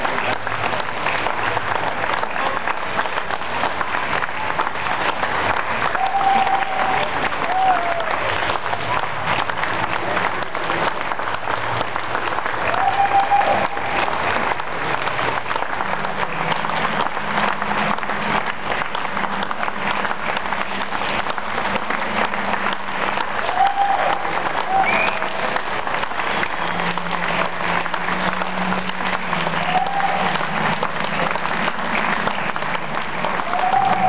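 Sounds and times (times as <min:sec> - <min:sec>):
crowd applauding: 0:00.0 - 0:34.0
crowd cheering: 0:00.0 - 0:34.0.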